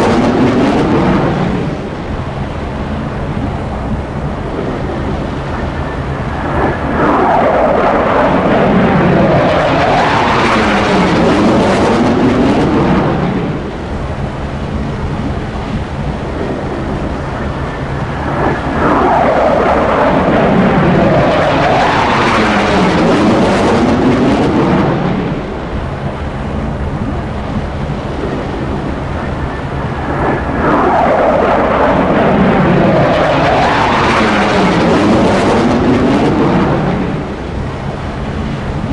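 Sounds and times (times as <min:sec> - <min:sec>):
fighter jets roaring past: 0:00.0 - 0:38.9.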